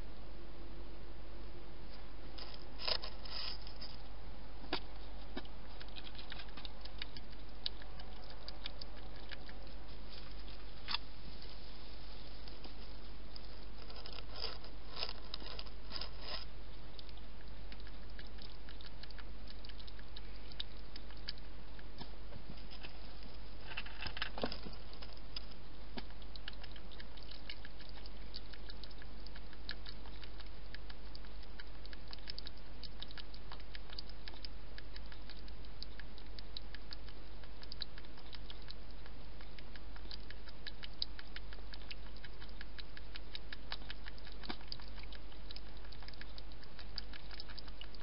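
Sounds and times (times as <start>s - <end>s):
hedgehog crunching food: 2.0s - 48.0s.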